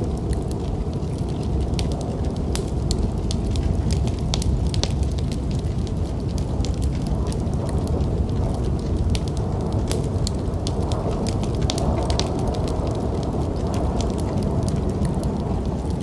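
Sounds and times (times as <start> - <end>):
storm wind rumble: 0.0 - 16.0
wood fire crackling and popping: 0.0 - 16.0.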